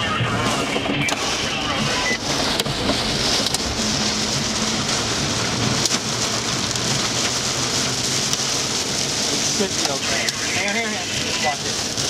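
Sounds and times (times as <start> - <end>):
engine and road rumble: 0.0 - 12.0
heavy rain and wind on vehicle: 0.0 - 12.0.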